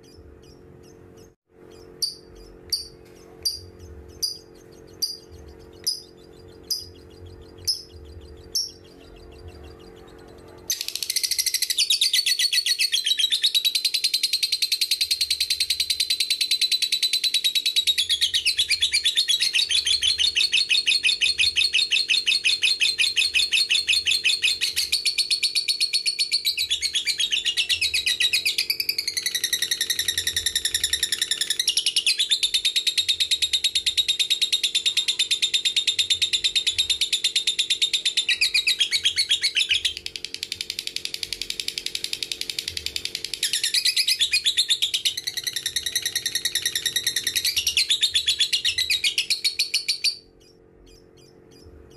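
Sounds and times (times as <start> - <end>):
lovebird chirping and trilling: 0.0 - 51.9.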